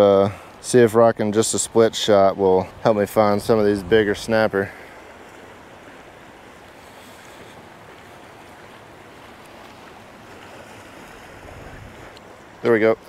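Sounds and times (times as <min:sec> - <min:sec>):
moving water: 0:00.0 - 0:13.0
wind: 0:00.0 - 0:13.0.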